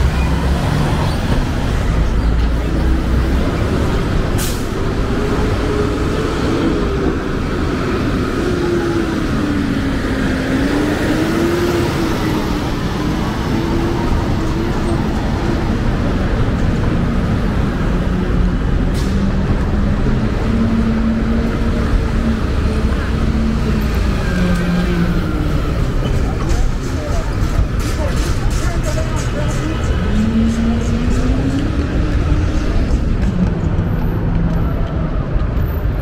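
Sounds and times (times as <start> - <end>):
passing cars and buses: 0.0 - 36.0.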